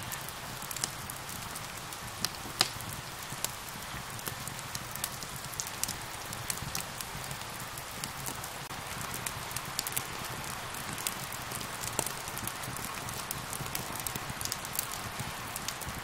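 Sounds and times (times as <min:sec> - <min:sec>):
rain hiss: 0:00.0 - 0:16.0
wood fire crackling: 0:00.0 - 0:16.0.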